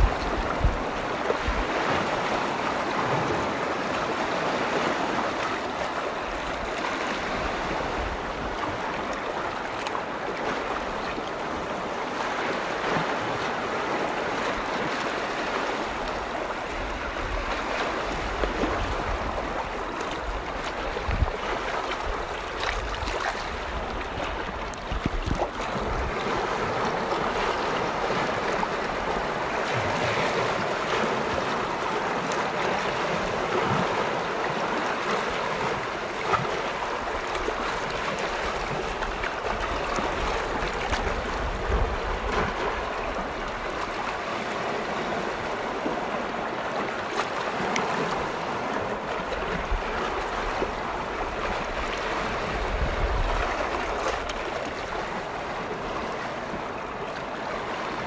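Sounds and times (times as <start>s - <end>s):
small waves washing on shore: 0.0s - 58.0s
wind rumble on microphone: 0.0s - 58.0s.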